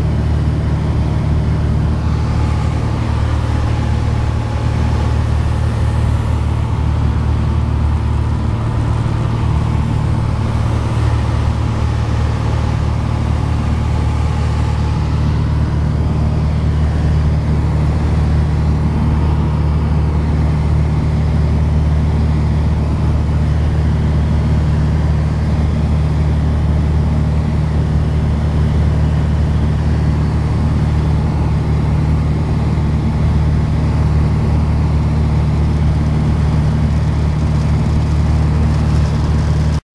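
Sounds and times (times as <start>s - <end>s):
propeller plane engine droning: 0.0s - 39.8s.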